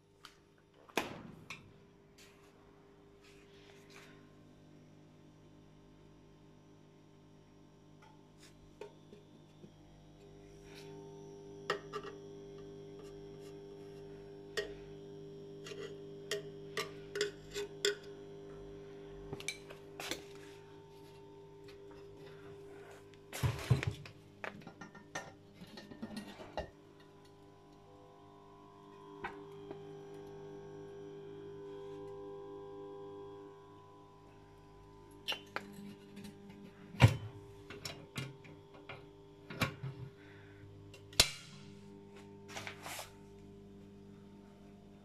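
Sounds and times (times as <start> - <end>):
lamp ballast humming: 7.0 - 45.0.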